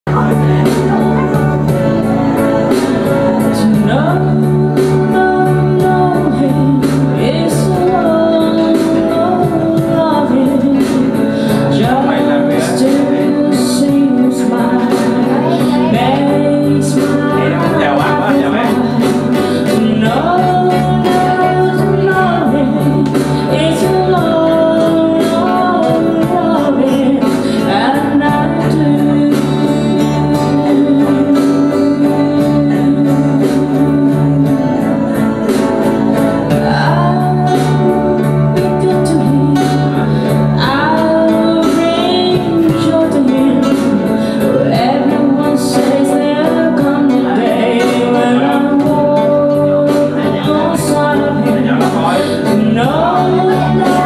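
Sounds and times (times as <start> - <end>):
instrumental accompaniment with bass: 0.0 - 54.0
woman singing into a microphone: 0.1 - 54.0.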